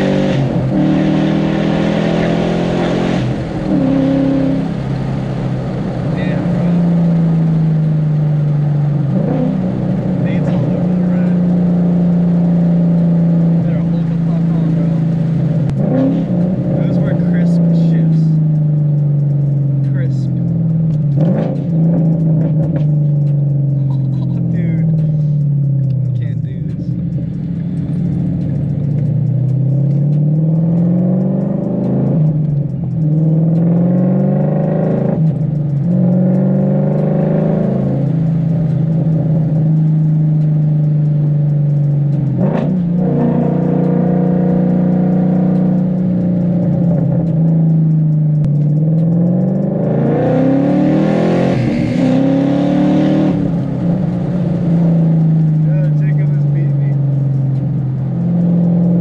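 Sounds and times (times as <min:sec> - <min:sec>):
car engine pulling through gears: 0:00.0 - 0:59.0.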